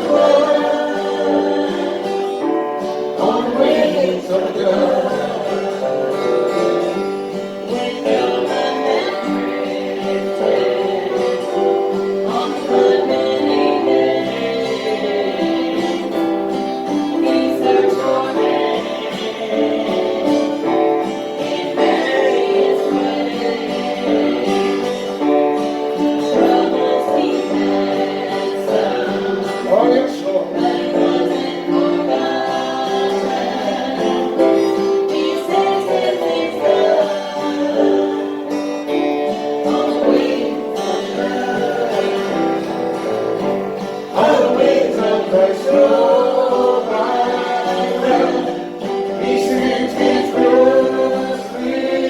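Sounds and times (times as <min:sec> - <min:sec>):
gospel singing: 0:00.0 - 0:52.0
plucked guitar: 0:00.0 - 0:52.0.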